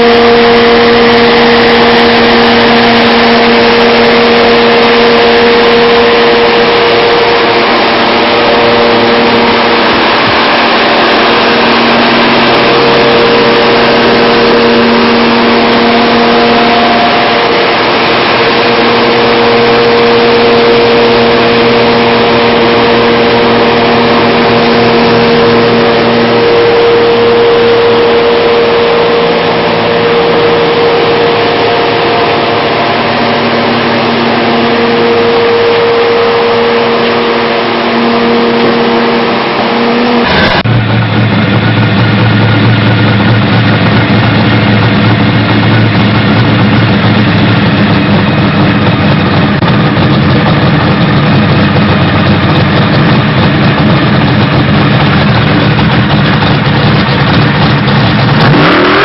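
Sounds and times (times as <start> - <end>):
deep low-speed engine rumble: 0.0 - 58.6
car engine running loud: 0.0 - 59.0.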